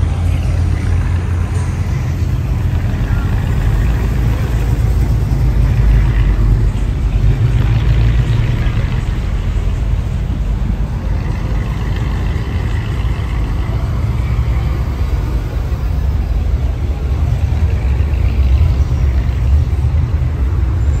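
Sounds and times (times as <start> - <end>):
car engines rumbling: 0.0 - 21.0.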